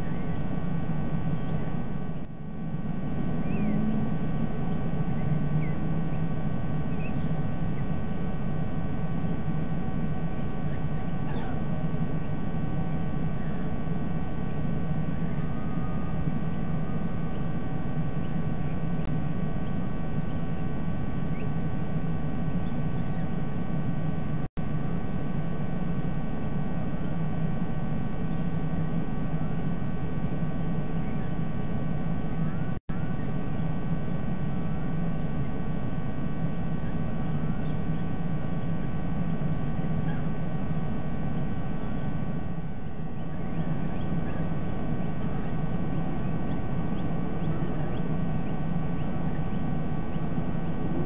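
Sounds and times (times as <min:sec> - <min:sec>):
faint steady hum tones: 0:00.0 - 0:51.0
outdoor rumble and hiss: 0:00.0 - 0:51.0.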